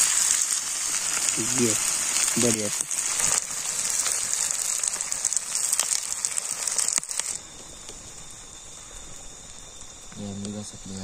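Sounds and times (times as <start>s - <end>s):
onions sizzling in hot oil: 0.0s - 9.8s
crickets chirping: 0.0s - 11.0s.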